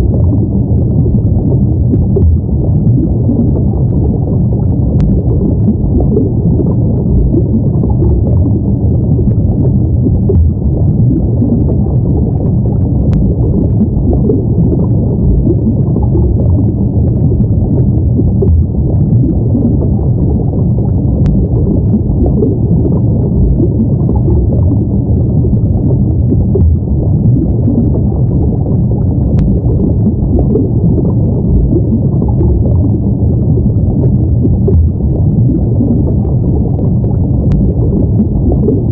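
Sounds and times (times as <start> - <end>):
muffled underwater rumble: 0.0 - 38.9.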